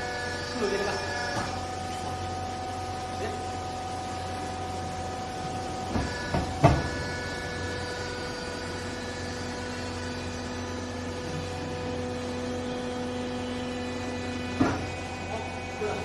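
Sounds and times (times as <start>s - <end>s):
hydraulic pump motor humming: 0.0s - 16.0s.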